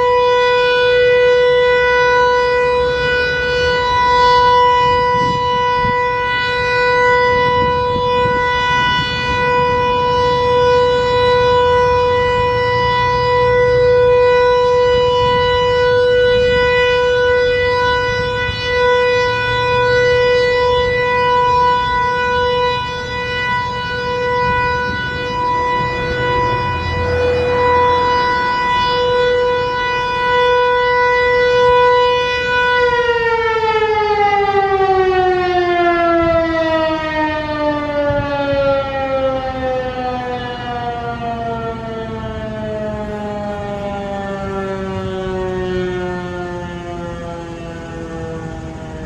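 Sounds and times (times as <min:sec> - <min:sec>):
mechanical siren steady tone: 0:00.0 - 0:49.0.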